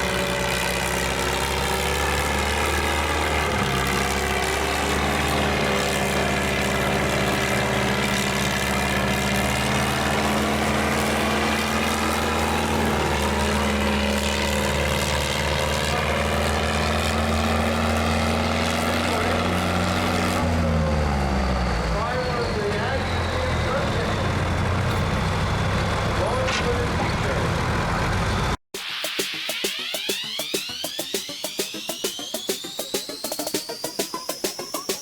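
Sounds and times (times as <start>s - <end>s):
tractor engine running: 0.0s - 28.6s.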